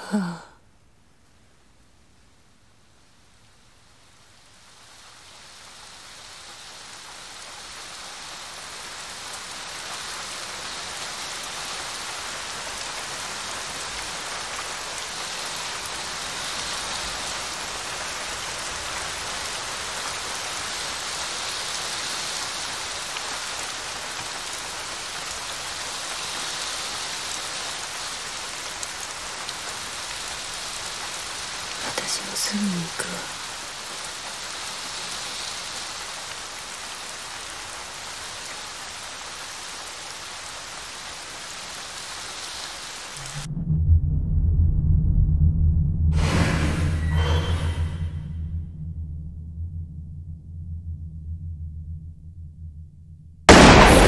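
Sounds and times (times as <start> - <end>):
rain falling: 0.0 - 43.5, 53.5 - 54.0.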